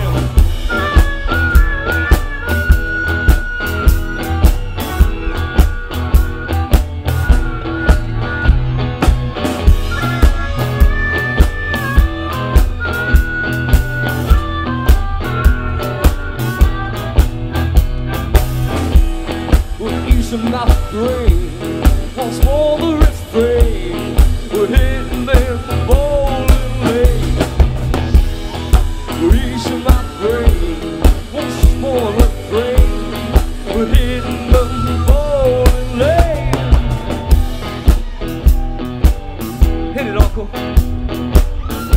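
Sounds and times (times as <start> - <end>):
blues-rock band playing: 0.0 - 41.9
harmonica wailing: 0.0 - 41.9.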